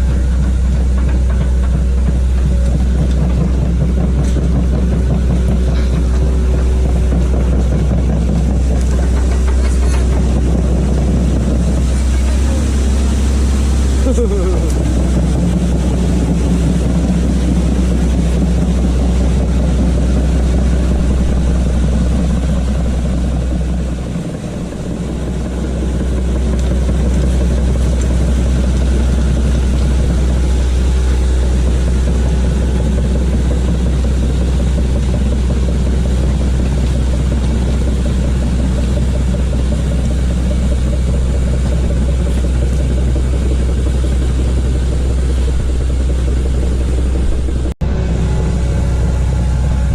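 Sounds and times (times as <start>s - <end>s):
excavator diesel engine droning: 0.0s - 49.9s.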